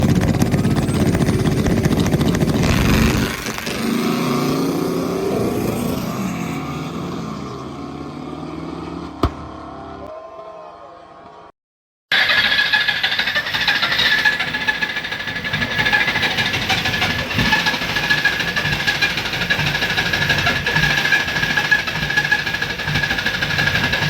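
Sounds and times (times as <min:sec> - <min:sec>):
vehicle engine running: 0:00.0 - 0:10.0, 0:13.1 - 0:24.0.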